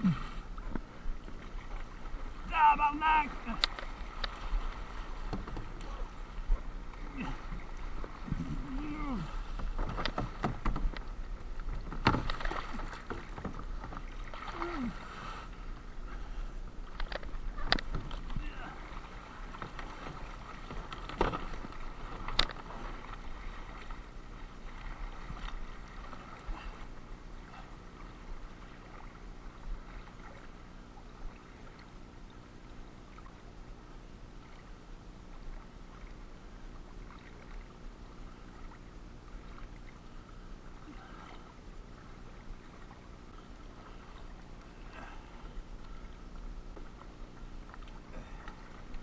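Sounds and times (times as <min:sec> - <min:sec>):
water lapping against kayak hulls: 0:00.0 - 0:49.0.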